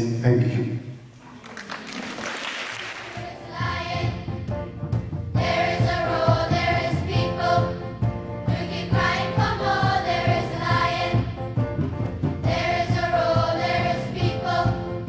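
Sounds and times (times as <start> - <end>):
choir singing with music: 2.7 - 15.0.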